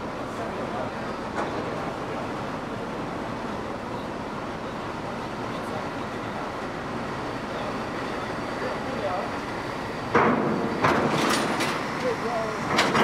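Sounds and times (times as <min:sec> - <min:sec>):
machinery rumble and hiss: 0:00.0 - 0:13.0.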